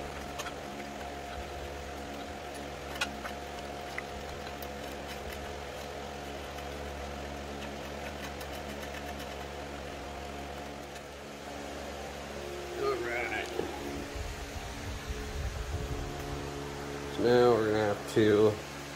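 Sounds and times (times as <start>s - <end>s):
steady mechanical hum: 0.0s - 18.9s.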